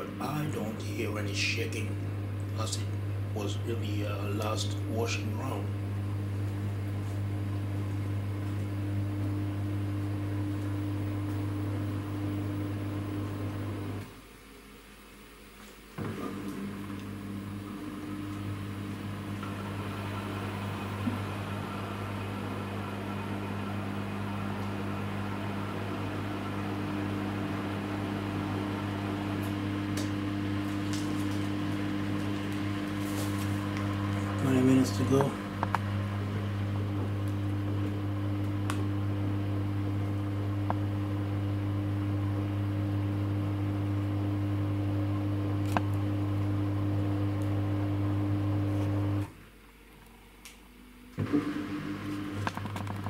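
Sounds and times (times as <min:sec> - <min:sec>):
washing machine spinning hum: 0:00.0 - 0:15.3, 0:15.9 - 0:49.6.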